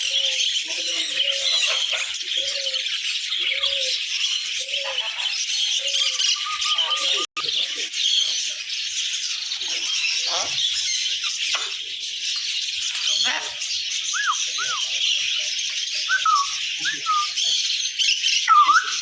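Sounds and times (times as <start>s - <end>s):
caged birds chirping and squawking: 0.0s - 19.0s.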